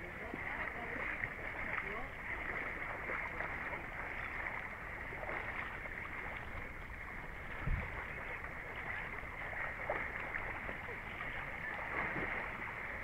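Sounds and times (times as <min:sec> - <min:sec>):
water sloshing around wading legs: 0:00.0 - 0:13.0.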